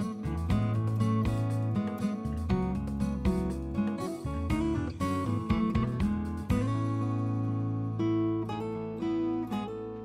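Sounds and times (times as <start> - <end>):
acoustic guitar strummed chords: 0.0 - 10.0.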